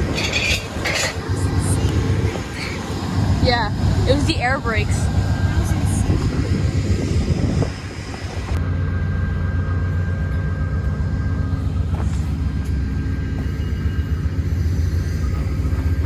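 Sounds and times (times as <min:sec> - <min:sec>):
diesel locomotive engine hum: 0:00.0 - 0:16.0
faint steady whine: 0:00.0 - 0:16.0.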